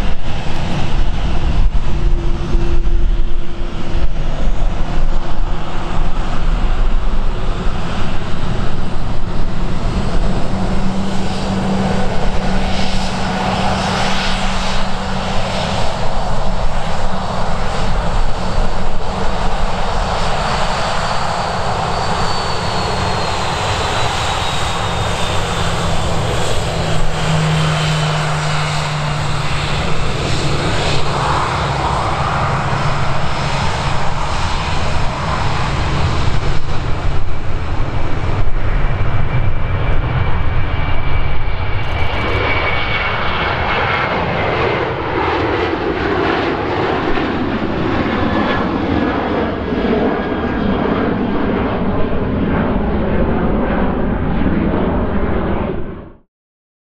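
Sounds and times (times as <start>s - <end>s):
aircraft engines running: 0.0s - 56.2s
wind rumble on microphone: 0.0s - 56.2s.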